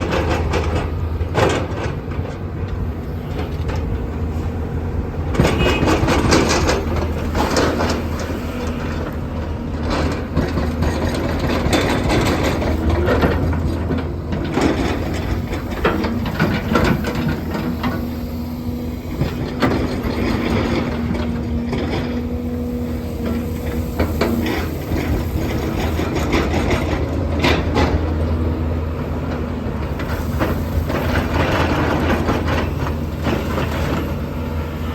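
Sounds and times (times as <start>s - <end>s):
diesel engine under load: 0.0s - 34.9s.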